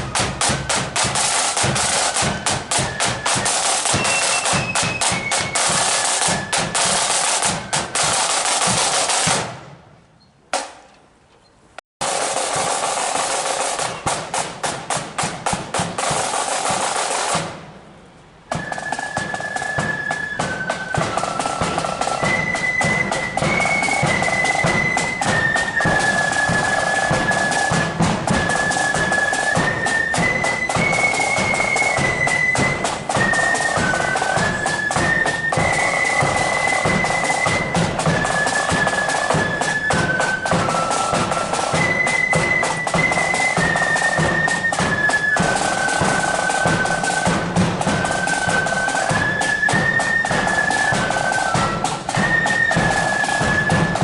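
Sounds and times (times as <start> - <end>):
flutes playing high notes: 0.0 - 9.5, 18.5 - 54.0
snare drums: 0.0 - 9.8, 10.5 - 10.9, 12.0 - 17.9, 18.5 - 54.0.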